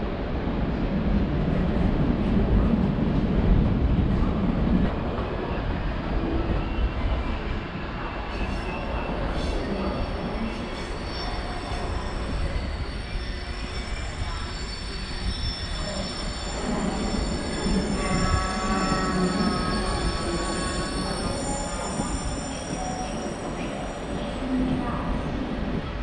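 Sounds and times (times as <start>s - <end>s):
train low rumble: 0.0s - 26.0s
wheels squealing on rails: 5.0s - 26.0s.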